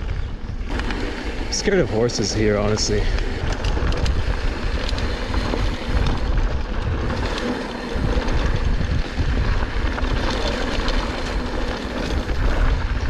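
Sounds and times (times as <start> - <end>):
bike clicks and rattles: 0.0 - 13.0
bike tyres rumbling on dirt: 0.0 - 13.0
wind on microphone: 0.0 - 13.0.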